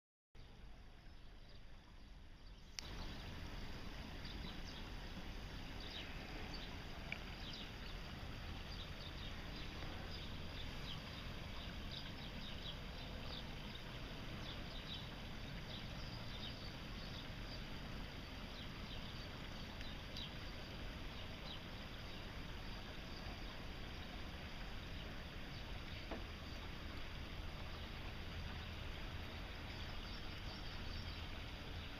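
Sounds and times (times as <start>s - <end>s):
water trickling and splashing: 0.4s - 31.9s
water flowing over ice: 2.6s - 31.9s.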